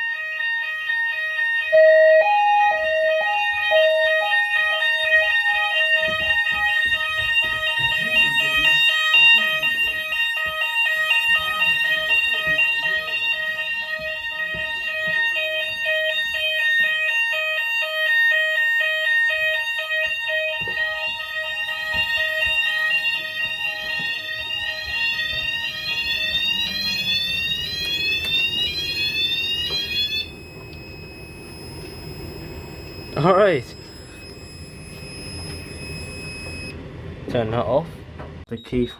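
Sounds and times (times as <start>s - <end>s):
pulsing fire alarm tones: 0.0s - 37.2s, 38.5s - 38.9s
rising sweep alarm tones: 0.0s - 37.2s.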